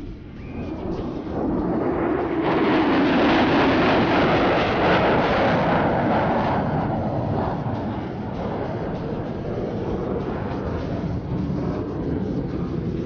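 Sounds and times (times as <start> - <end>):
jet flying past roaring: 0.0 - 13.0.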